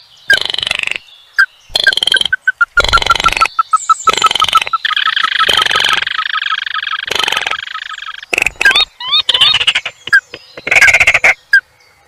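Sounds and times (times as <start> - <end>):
bird rattling call: 1.7 - 11.4.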